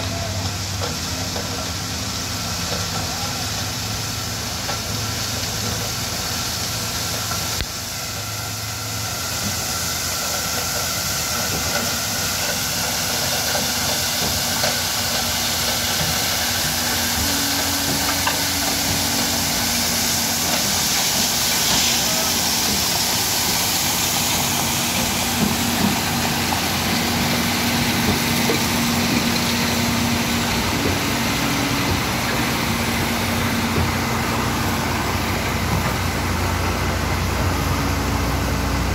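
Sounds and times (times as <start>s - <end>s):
heavy diesel machinery running: 0.0s - 38.9s
loud hiss of stone chips spreading: 0.1s - 38.9s.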